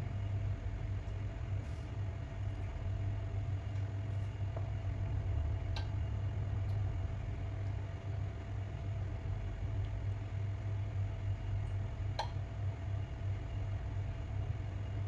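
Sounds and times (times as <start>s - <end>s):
electric hob humming: 0.0s - 15.0s.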